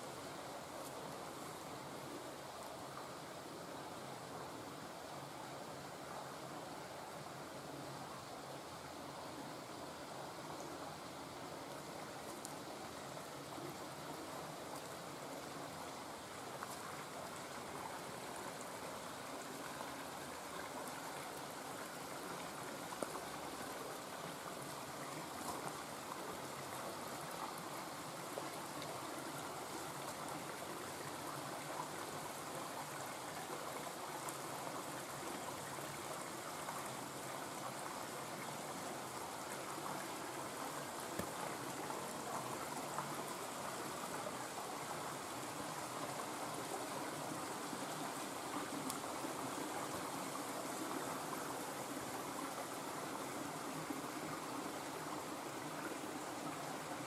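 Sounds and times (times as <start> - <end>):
creek water trickling over stones: 0.0 - 57.0.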